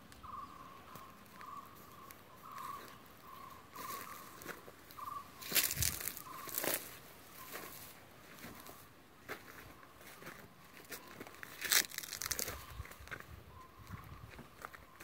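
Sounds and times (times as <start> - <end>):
footsteps crunching on gravel: 0.2 - 15.0.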